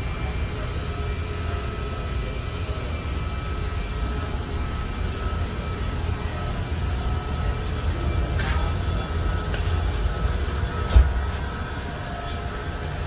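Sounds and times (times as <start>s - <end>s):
faint steady whine: 0.0s - 13.0s
machinery low rumble: 0.0s - 13.0s.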